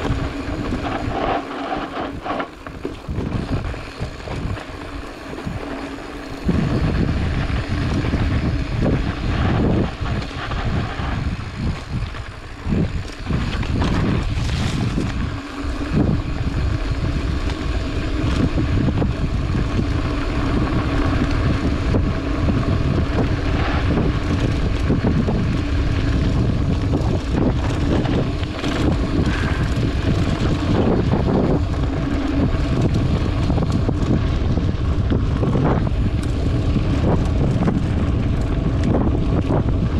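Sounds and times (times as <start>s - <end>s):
bike knocks and rattles: 0.0s - 39.9s
bike tyres crunching on dirt: 0.0s - 39.9s
wind buffeting the microphone: 0.0s - 39.9s.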